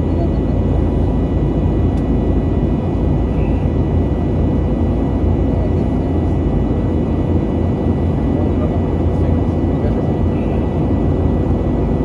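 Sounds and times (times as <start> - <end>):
engine and airflow rumble: 0.0 - 12.0.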